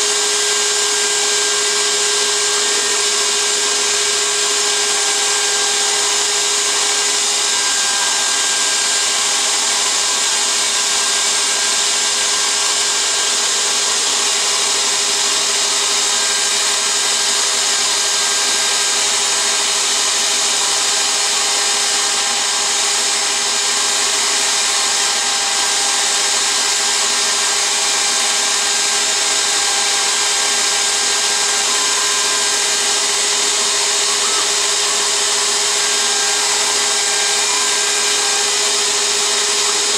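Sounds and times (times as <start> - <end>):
router spindle engraving wood: 0.0 - 39.9
vacuum pump running: 0.0 - 39.9.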